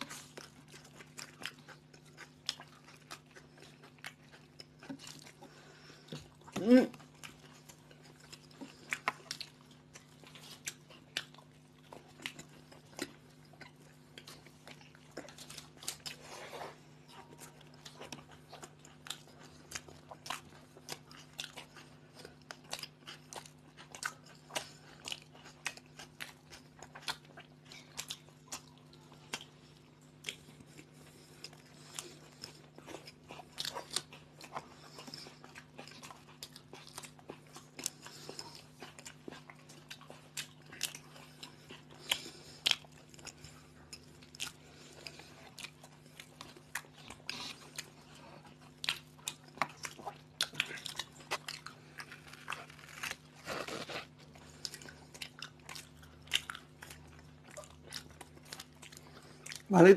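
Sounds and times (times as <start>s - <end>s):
people crunching sandwiches: 0.0s - 59.9s.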